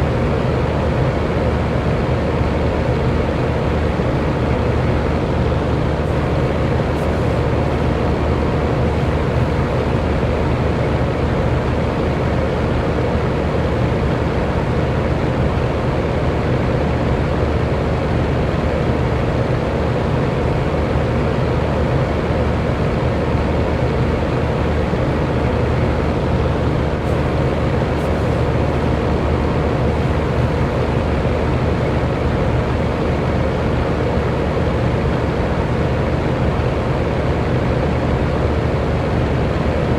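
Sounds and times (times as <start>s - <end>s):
electric fan whooshing: 0.0s - 15.7s, 17.9s - 39.9s
faint motor hum: 0.0s - 39.9s.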